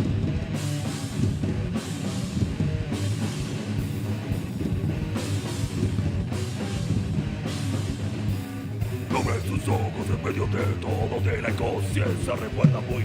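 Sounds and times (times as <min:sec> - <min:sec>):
bass guitar: 0:00.0 - 0:13.0
distorted guitars: 0:00.0 - 0:13.0
pounding drums with cymbals: 0:00.0 - 0:13.0.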